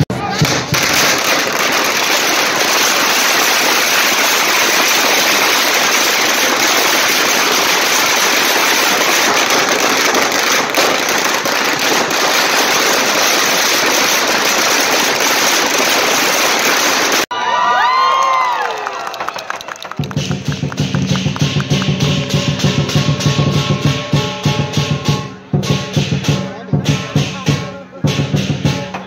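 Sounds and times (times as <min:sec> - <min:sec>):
firecrackers crackling: 0:00.0 - 0:29.0.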